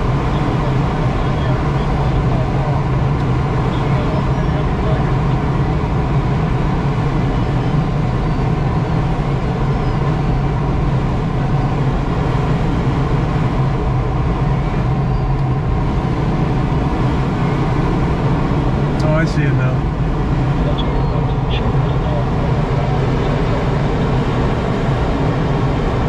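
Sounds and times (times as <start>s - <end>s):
low hum: 0.0s - 26.0s
sailplane cockpit noise: 0.0s - 26.0s.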